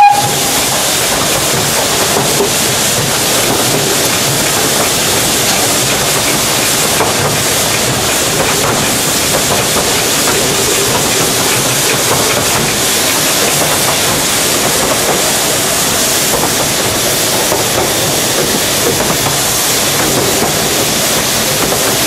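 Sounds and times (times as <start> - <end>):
steam train hiss and rumble: 0.0 - 22.0
wheel clicks on rails: 0.7 - 22.0.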